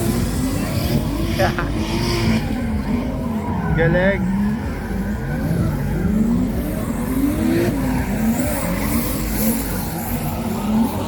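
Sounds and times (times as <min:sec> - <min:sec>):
car engine revving: 0:00.0 - 0:11.0
tyres squealing and skidding: 0:00.0 - 0:11.0.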